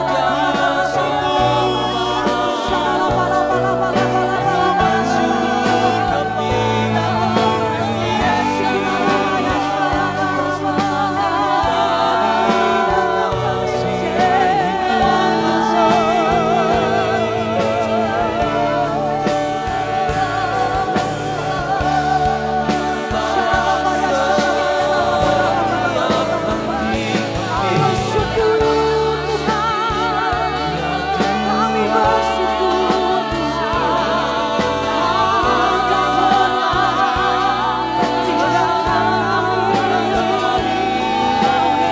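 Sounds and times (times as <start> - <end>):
singers holding long notes: 0.0 - 41.9
worship band playing gospel song: 0.0 - 41.9.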